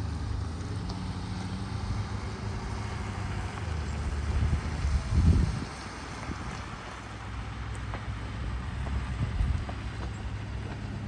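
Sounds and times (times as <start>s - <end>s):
tyres rolling on gravel: 0.0s - 11.0s.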